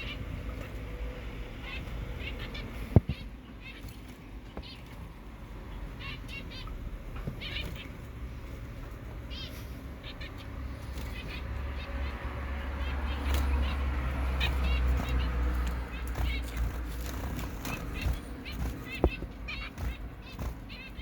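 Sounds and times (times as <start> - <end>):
finches chirping: 0.0 - 21.0.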